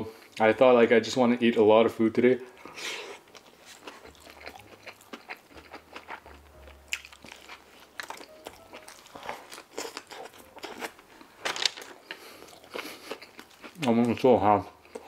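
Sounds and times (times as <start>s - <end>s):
person chewing open-mouthed: 2.5s - 15.0s.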